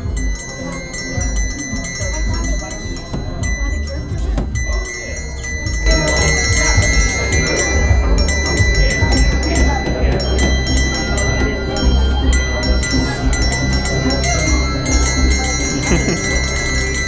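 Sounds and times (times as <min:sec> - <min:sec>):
electronic ambient music: 0:00.0 - 0:17.0.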